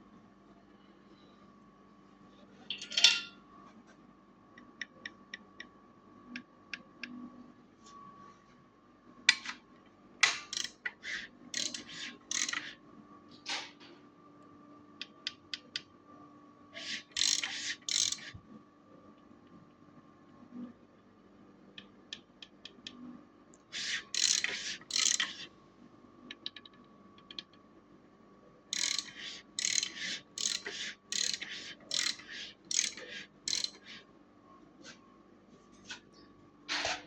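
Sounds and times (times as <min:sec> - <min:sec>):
faint steady hum: 0:00.0 - 0:36.7.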